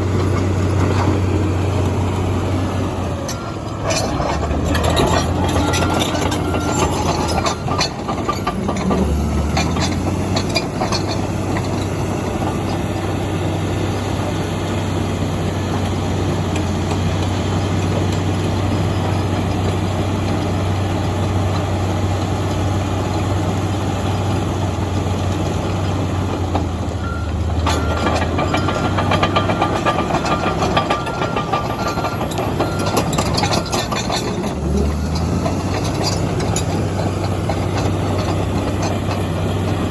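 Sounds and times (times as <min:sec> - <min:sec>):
bulldozer diesel engine running: 0:00.0 - 0:39.9
tracks clanking: 0:00.0 - 0:39.9.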